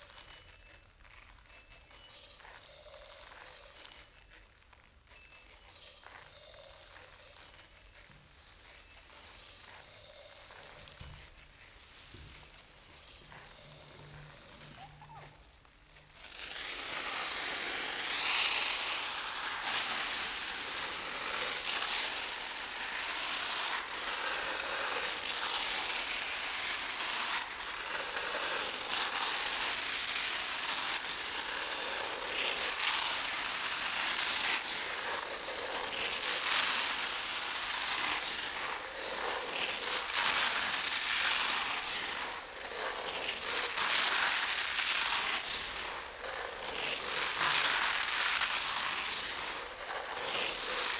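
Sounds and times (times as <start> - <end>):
rice grains pattering on paper: 9.6 - 50.9.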